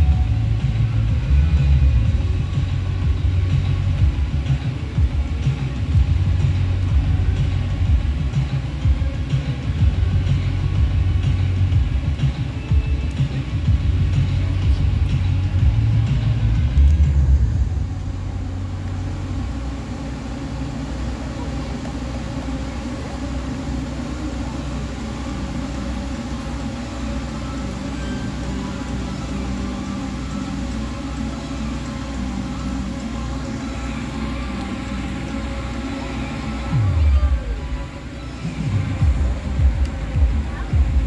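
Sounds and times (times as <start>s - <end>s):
drone propellers humming: 0.0s - 41.0s
low rumble: 0.0s - 41.0s.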